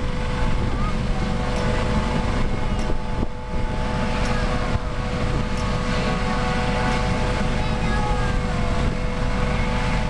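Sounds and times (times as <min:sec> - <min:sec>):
helicopter turbine whine: 0:00.0 - 0:10.0
low rumble: 0:00.0 - 0:10.0.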